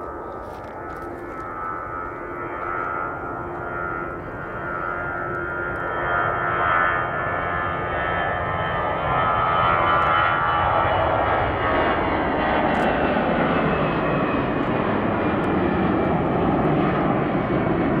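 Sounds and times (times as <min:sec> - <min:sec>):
high engine whine: 0:00.0 - 0:18.0
jet engines roaring at takeoff: 0:00.0 - 0:18.0.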